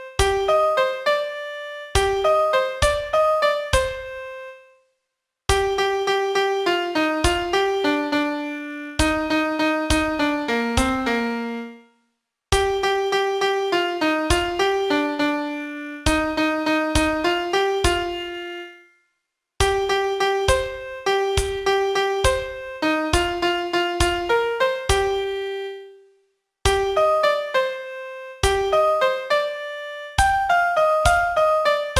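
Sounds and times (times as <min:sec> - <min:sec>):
solo piano melody: 0:00.0 - 0:04.6, 0:05.5 - 0:11.8, 0:12.6 - 0:18.7, 0:19.6 - 0:26.0, 0:26.7 - 0:31.9.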